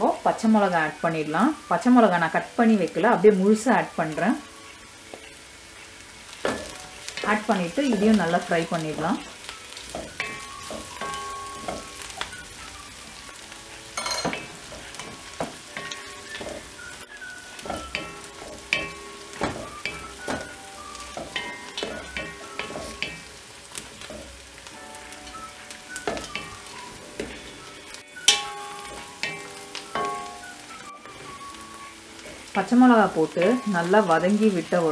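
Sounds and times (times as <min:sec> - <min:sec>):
onions sizzling in oil: 0:00.0 - 0:34.9.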